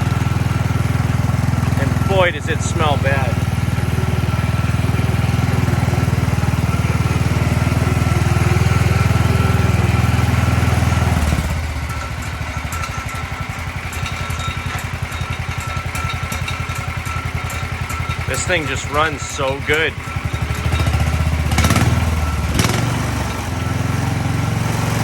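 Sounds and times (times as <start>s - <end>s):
garden tractor engine running: 0.0s - 25.0s.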